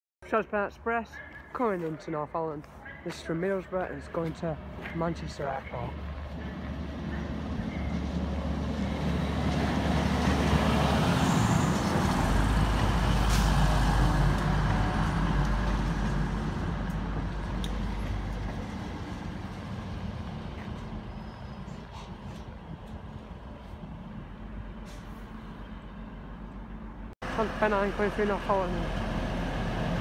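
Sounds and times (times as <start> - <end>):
diesel train engine drone: 2.6 - 30.0
wheels rumbling on rails: 2.6 - 30.0.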